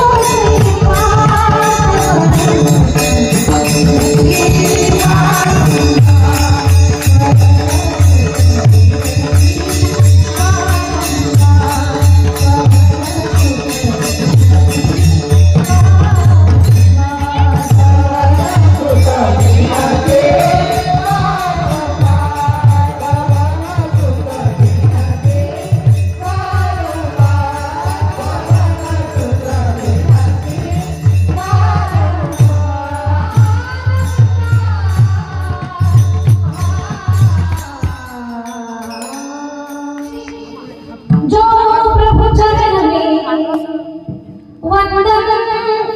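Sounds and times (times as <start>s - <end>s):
woman singing: 0.0s - 9.3s, 10.2s - 45.9s
jingling hand percussion: 0.0s - 45.3s.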